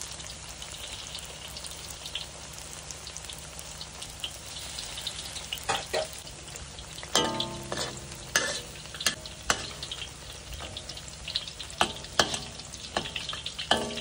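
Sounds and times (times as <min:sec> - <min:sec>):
deep-frying sizzle with crackling pops: 0:00.0 - 0:14.0.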